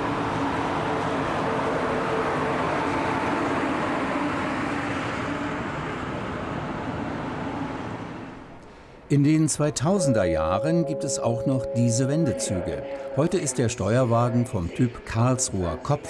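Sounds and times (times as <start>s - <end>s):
faint whine: 0.0s - 16.0s
steady locomotive hum: 0.0s - 16.0s.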